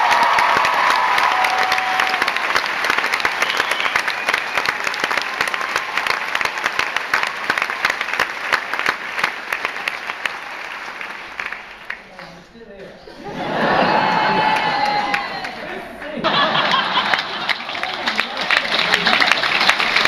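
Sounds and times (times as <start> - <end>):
audience applauding: 0.0 - 12.5, 13.4 - 20.0.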